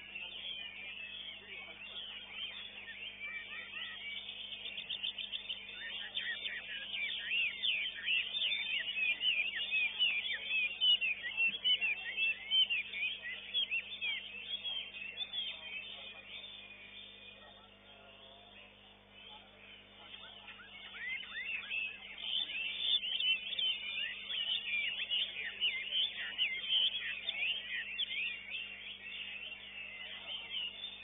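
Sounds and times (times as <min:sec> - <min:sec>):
songbird singing chirps and whistles: 0:00.0 - 0:31.0.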